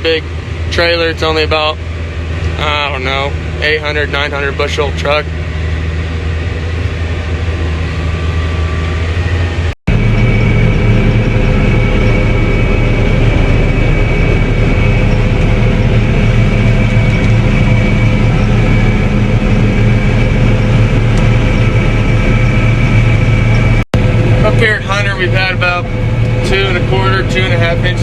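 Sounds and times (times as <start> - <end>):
farm machinery engine drone: 0.0 - 28.0
high mechanical whine: 0.0 - 28.0.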